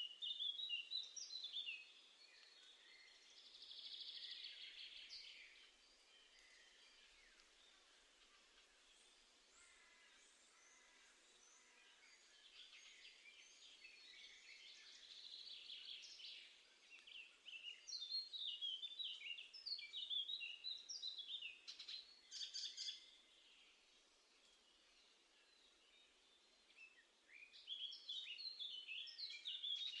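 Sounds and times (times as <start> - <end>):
small songbirds chirping: 0.0 - 30.0.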